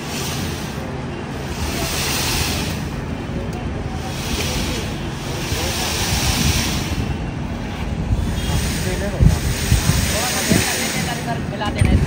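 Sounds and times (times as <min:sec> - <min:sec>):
low pump rumble: 0:00.0 - 0:12.0
wet concrete rushing from pipe: 0:00.0 - 0:12.0.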